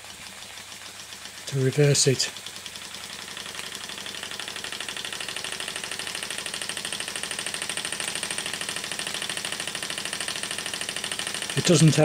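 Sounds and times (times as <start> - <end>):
toy steam engine puffing: 0.0 - 12.0.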